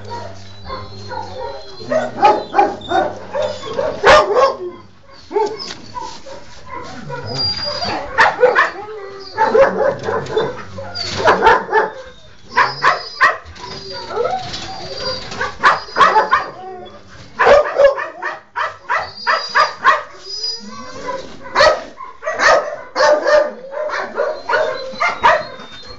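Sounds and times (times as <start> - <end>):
dog whining high-pitched: 0.0 - 18.1, 18.9 - 22.1, 23.0 - 25.9
dog yelping: 0.0 - 25.9.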